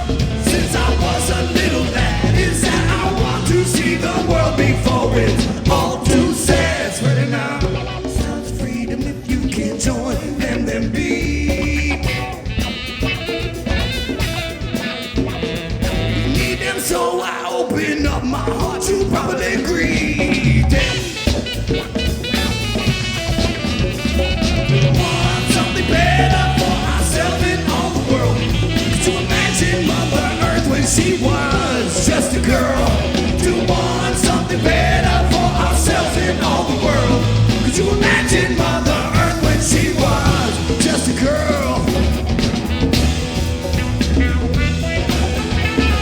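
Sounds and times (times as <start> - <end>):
rap-rock band playing: 0.0 - 46.0.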